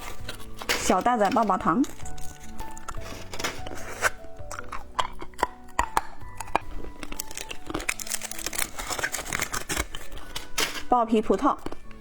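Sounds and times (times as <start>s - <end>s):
background music: 0.0s - 12.0s
plastic wrapper crinkling and tearing: 0.0s - 12.0s.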